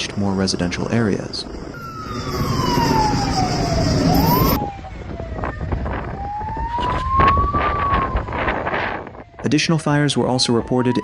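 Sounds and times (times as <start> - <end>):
emergency vehicle siren wailing: 0.0 - 11.0
low traffic rumble: 0.0 - 11.0
wind: 0.0 - 11.0.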